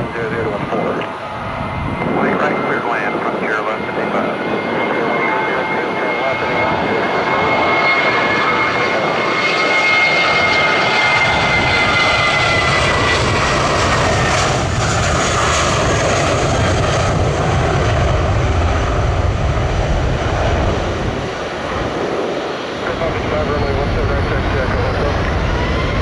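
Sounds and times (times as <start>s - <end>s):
deep engine rumble: 0.0s - 26.0s
jet engines whining: 0.0s - 26.0s.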